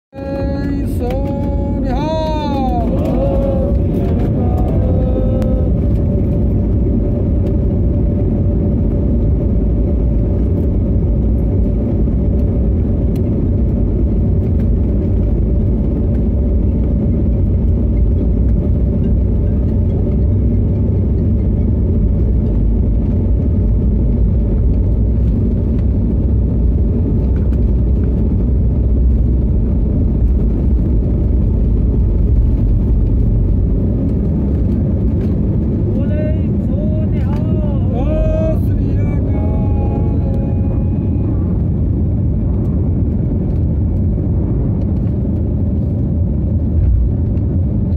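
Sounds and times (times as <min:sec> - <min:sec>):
jet engines rumbling in cabin: 0:00.1 - 0:47.9.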